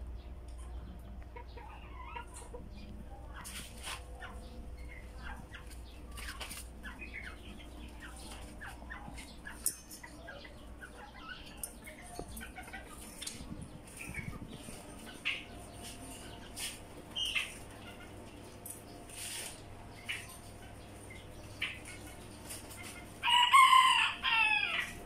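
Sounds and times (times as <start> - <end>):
birds chirping: 0.0 - 25.0
chickens clucking: 0.0 - 25.0.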